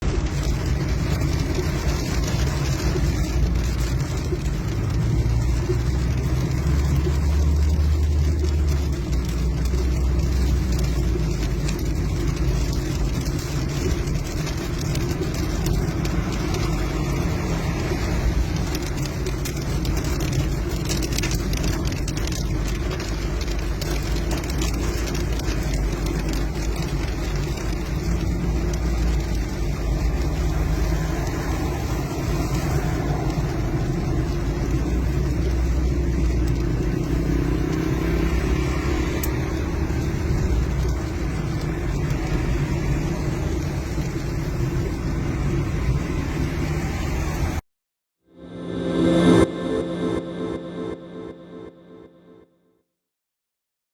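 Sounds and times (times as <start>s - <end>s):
deep low rumble: 0.0s - 47.6s, 48.4s - 52.4s
tyres hissing on wet road: 0.0s - 47.6s.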